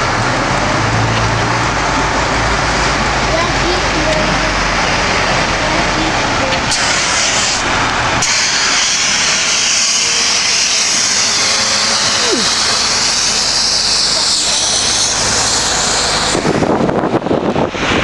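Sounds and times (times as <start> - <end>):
low rumbling wind: 0.0 - 11.9, 15.0 - 18.0
road noise: 0.0 - 18.0.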